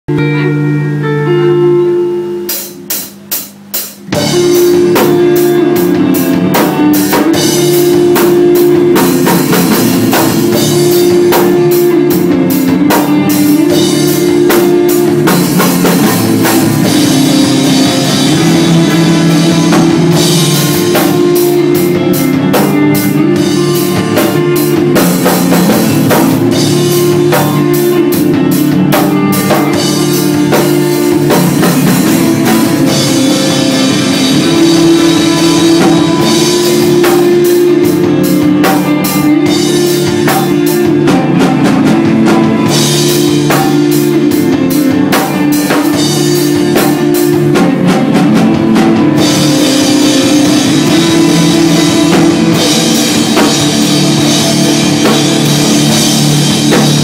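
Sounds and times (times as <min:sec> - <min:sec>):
rock band playing: 0:00.1 - 0:57.0
drum and cymbal strikes: 0:02.2 - 0:57.0.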